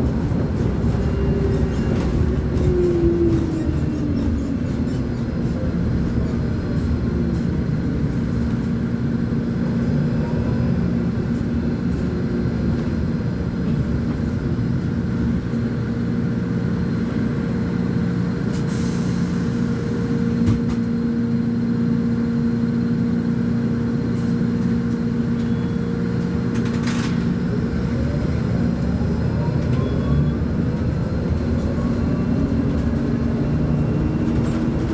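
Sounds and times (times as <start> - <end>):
bus diesel engine running: 0.0 - 34.9.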